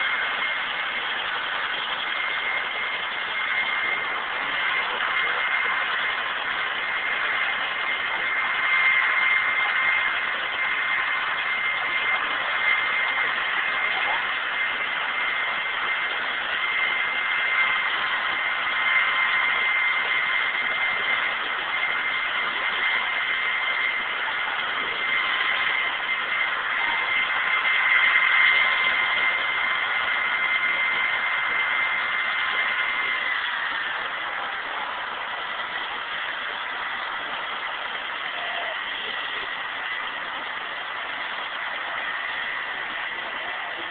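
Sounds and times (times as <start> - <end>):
helicopter rotor rushing: 0.0 - 43.9
helicopter turbine whine: 0.0 - 43.9.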